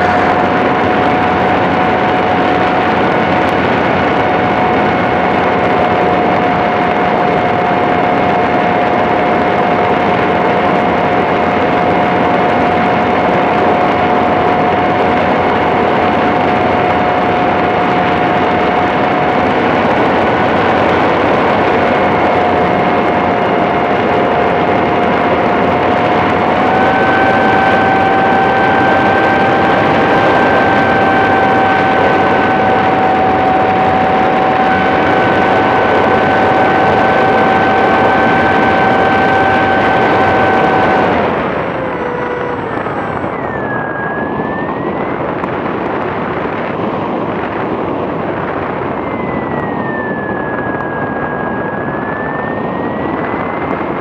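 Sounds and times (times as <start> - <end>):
model airplane motor whine: 0.0 - 54.0.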